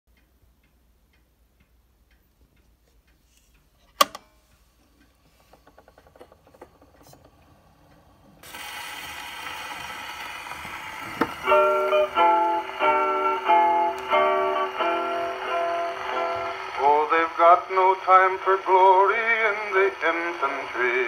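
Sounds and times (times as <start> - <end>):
phonograph ticking and clicks: 0.1 - 21.0
record surface hiss and crackle: 0.1 - 21.0.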